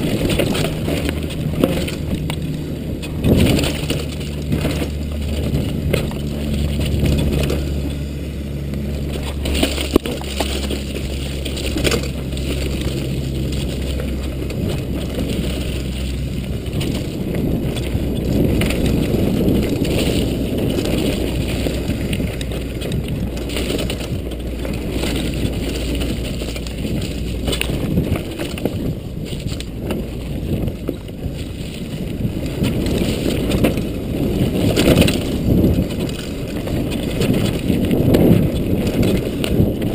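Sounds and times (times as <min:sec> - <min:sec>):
bike frame knocking and rattling: 0:00.0 - 0:39.9
bike tyres crunching over dirt: 0:00.0 - 0:39.9
wind buffeting microphone: 0:00.0 - 0:39.9.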